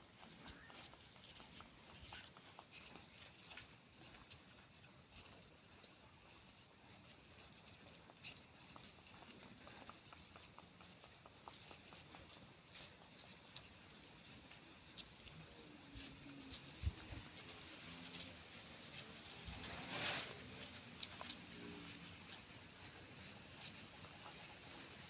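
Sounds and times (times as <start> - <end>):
dog paws tapping and clicking: 0.0 - 25.0.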